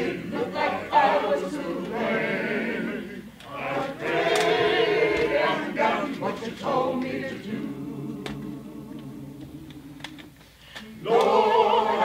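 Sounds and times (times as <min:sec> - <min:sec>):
mixed choir singing a cappella: 0:00.0 - 0:12.0.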